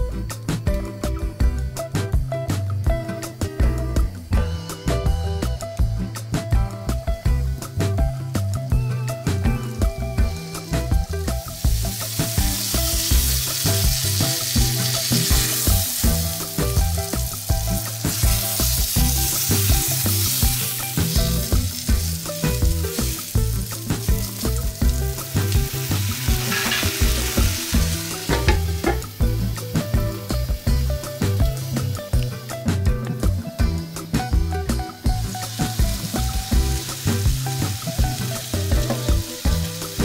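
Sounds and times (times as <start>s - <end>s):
chicken sizzling in oil: 0.0s - 40.0s
music with steady beat: 0.0s - 40.0s.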